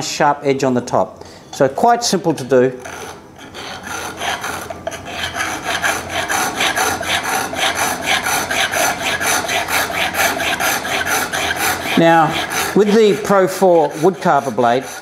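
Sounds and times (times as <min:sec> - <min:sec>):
file rasping on metal blade: 0:02.3 - 0:15.0.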